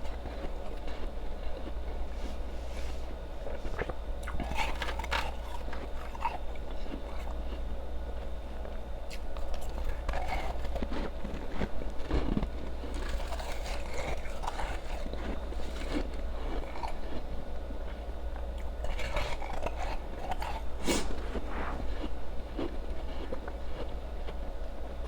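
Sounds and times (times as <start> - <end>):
ice crunching between teeth: 0.0 - 1.8, 3.6 - 7.7, 9.1 - 17.4, 18.6 - 24.4.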